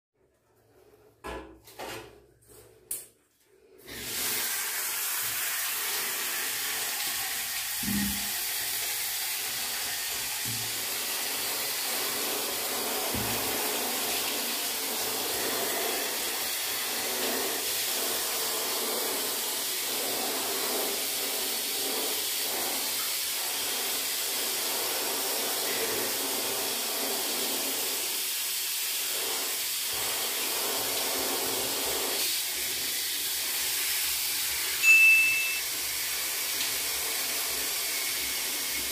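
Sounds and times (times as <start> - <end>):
shower water spraying: 3.8 - 38.9.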